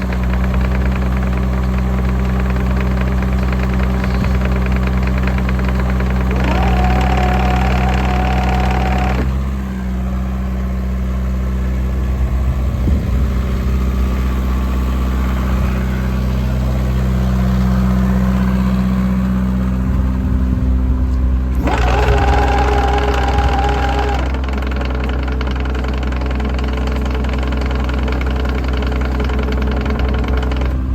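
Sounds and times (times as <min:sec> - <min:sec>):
excavator diesel engine running: 0:00.0 - 0:30.9.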